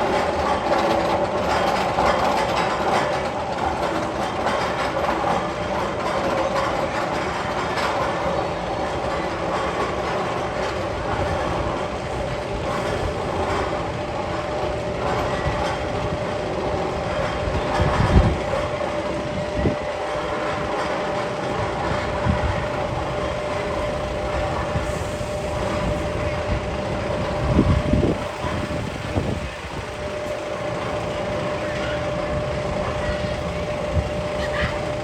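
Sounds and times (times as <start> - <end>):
constant hum: 0.0 - 35.0
rail-like rumbling: 0.0 - 35.0.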